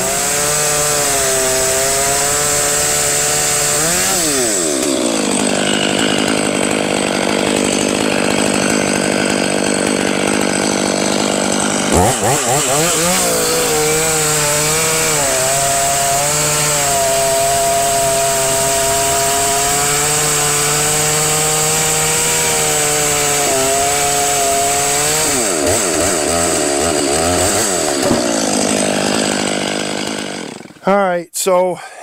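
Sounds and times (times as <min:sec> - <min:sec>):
chainsaw cutting through log: 0:00.0 - 0:31.0.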